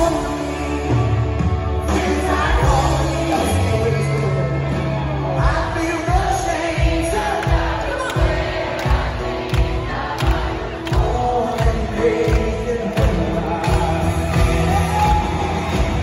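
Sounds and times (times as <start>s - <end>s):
people singing: 0.0s - 4.4s, 5.0s - 16.0s
live country band: 0.0s - 16.0s.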